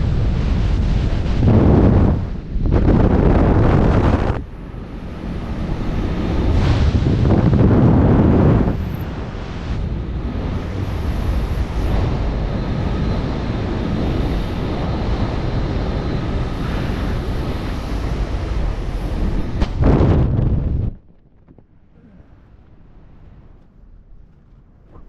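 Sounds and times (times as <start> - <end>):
wind buffeting the microphone: 0.0 - 21.7.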